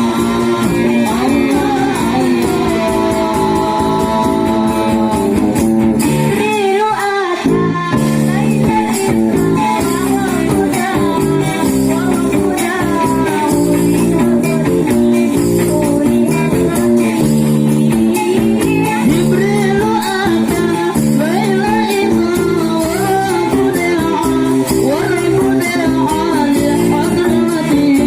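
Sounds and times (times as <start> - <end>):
devotional song with accompaniment: 0.0 - 28.0.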